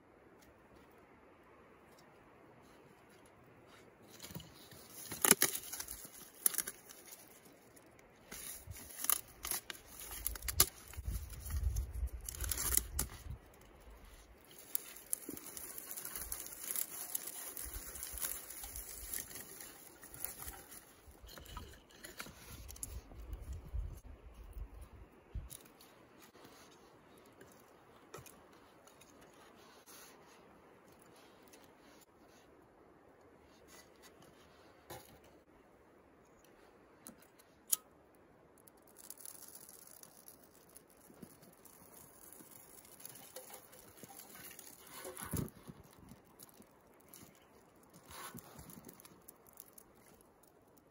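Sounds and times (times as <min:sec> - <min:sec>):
twig bundle rustling: 0:01.8 - 0:35.6, 0:36.3 - 0:50.9.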